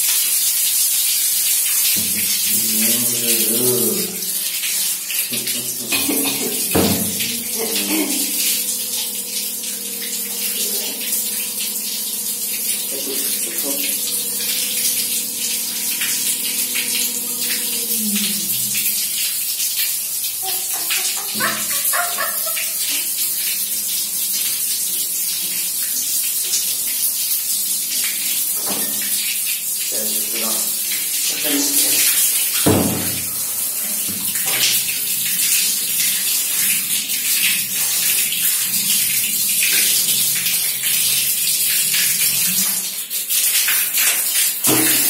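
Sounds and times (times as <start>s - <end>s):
tap water splashing on tiles: 0.0s - 45.0s.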